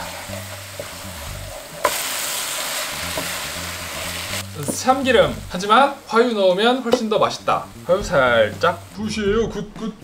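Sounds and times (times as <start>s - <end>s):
food sizzling in a pan: 0.0s - 9.3s.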